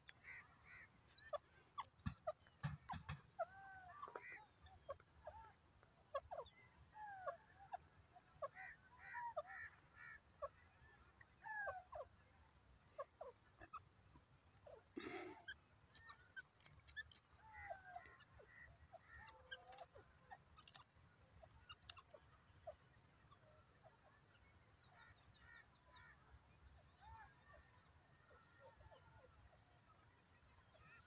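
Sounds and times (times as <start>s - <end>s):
bird calls and chirps: 0.0s - 31.0s.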